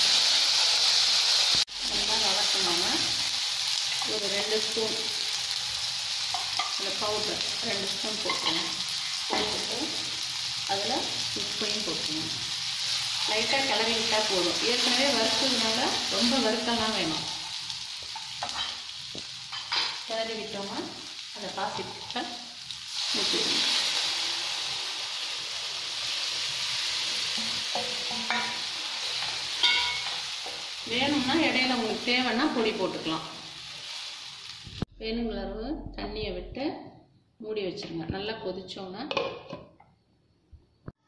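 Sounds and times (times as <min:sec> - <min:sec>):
vegetables sizzling in hot oil: 0:00.0 - 0:34.9.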